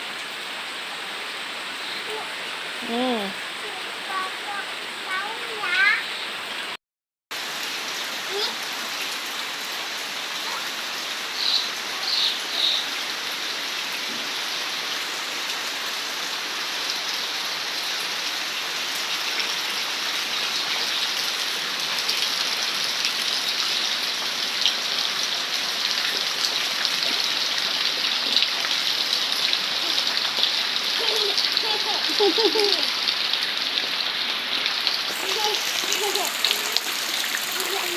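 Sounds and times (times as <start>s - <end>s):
heavy rain falling: 0.0s - 6.8s, 7.4s - 37.9s.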